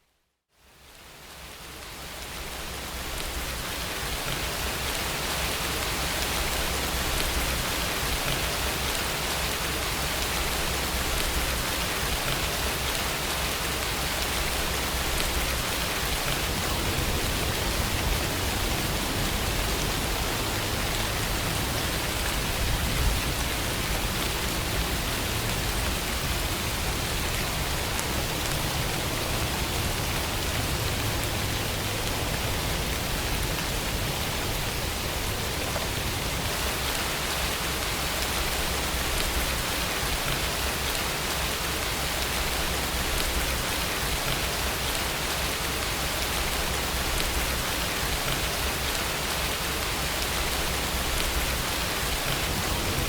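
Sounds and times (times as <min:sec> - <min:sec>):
steady rain hissing: 0:00.5 - 0:53.0.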